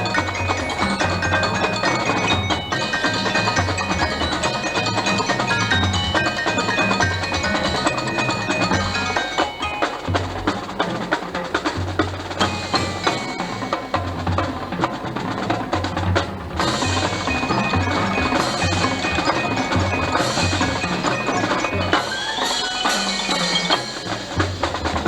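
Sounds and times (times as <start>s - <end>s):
mallet percussion notes: 0.0s - 25.0s
marching band playing: 0.0s - 25.0s.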